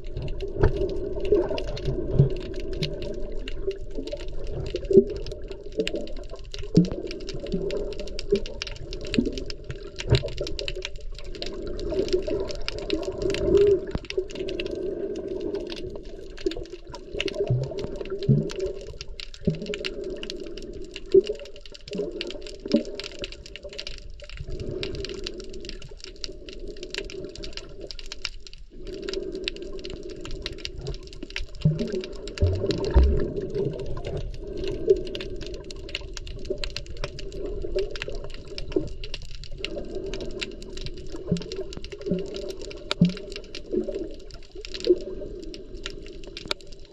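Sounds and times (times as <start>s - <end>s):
fine crackling clicks: 0.0s - 46.9s
muffled underwater wash: 0.0s - 46.9s.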